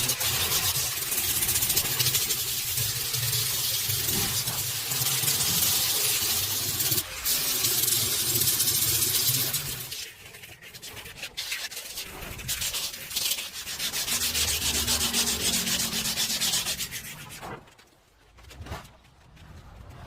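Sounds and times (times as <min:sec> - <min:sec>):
abrasive sanding and rubbing: 0:00.0 - 0:18.0.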